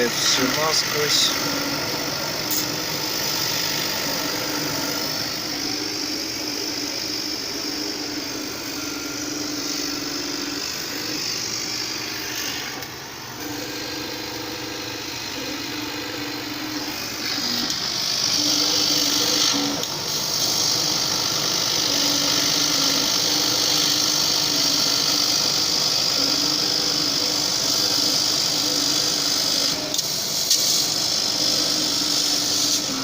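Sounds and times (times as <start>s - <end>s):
stepper motors humming: 0.0s - 33.0s.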